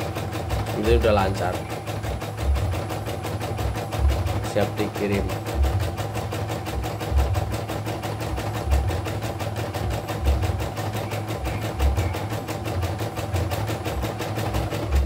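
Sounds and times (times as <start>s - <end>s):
embroidery machine needle clatter: 0.0s - 15.0s.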